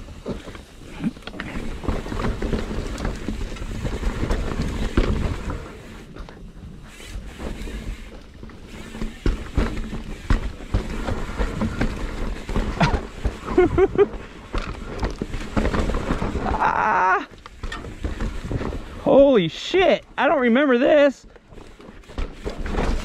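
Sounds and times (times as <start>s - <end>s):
bike knocking and rattling: 0.0s - 23.0s
bike tyres rumbling over dirt: 0.0s - 23.0s.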